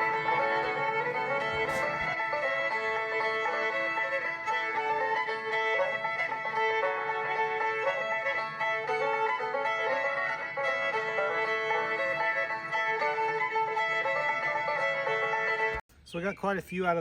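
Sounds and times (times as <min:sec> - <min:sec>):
bluegrass banjo music: 0:00.0 - 0:15.8
fiddle-like melody line: 0:00.0 - 0:15.8.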